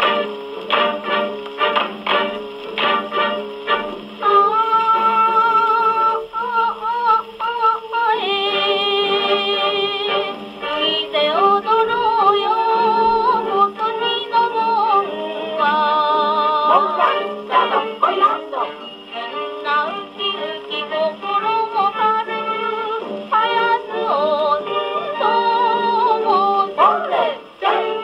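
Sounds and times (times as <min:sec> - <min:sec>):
boogie song on gramophone: 0:00.0 - 0:28.0.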